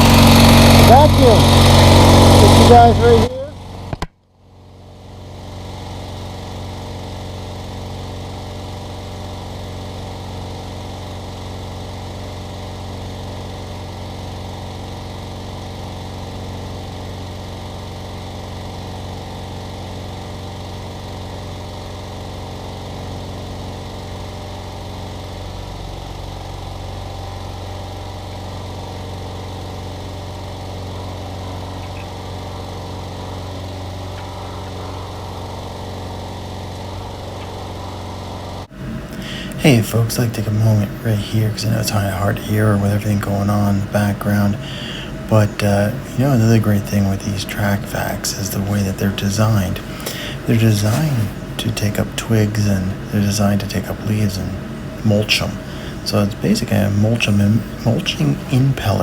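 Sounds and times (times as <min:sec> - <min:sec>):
vacuum engine droning: 0:00.0 - 0:59.0.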